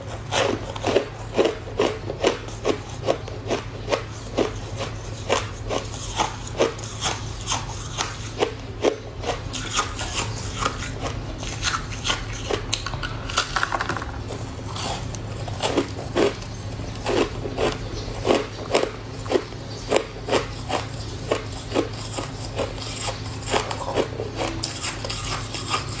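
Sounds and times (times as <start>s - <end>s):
frost being chewed crunching: 0.0s - 26.0s
steady low hum: 0.0s - 26.0s.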